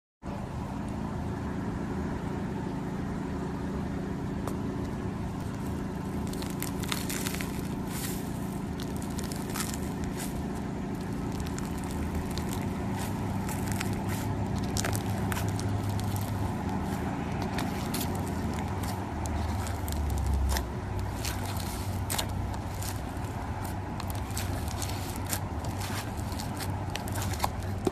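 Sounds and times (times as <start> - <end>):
steady low hum: 0.2 - 27.9
slime crackling and crunching: 5.4 - 27.9.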